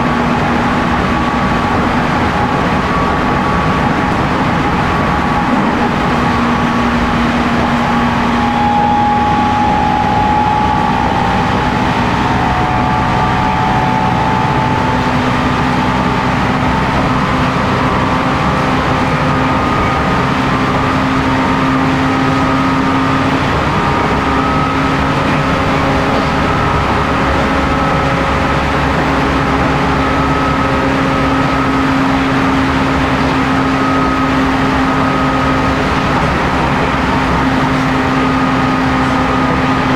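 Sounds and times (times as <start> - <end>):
electric train motors whining: 0.0 - 39.9
train running rumble: 0.0 - 39.9.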